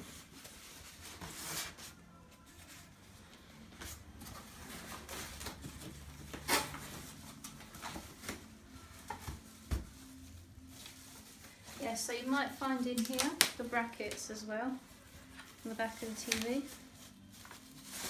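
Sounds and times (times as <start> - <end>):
polystyrene packing rubbing and squeaking: 0.0 - 2.0, 4.4 - 18.0.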